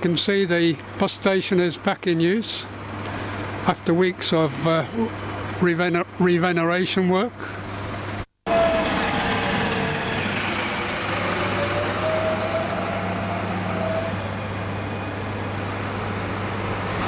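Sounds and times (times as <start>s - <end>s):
bus engine whining: 0.0s - 17.0s.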